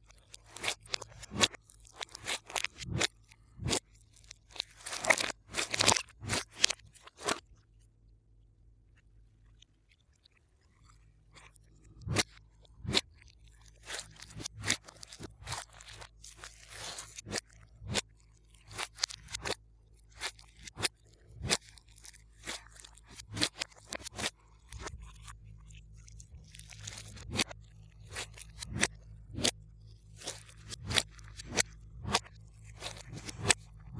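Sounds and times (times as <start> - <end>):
slime crackling softly: 0.0 - 33.9.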